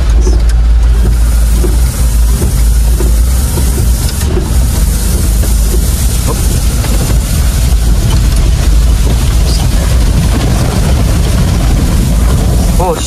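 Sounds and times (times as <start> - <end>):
heavy rain and road noise: 0.0 - 13.0
vehicle engine droning: 0.0 - 13.0.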